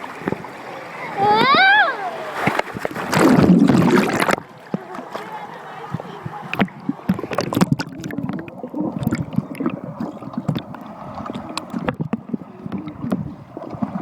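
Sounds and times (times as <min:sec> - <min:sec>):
water rushing and sloshing: 0:00.0 - 0:14.0.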